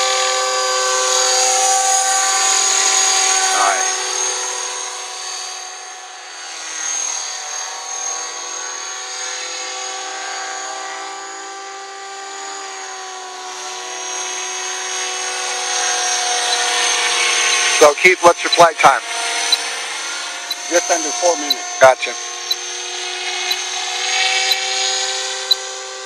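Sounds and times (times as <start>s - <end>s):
rc helicopter motor whine: 0.0s - 26.0s.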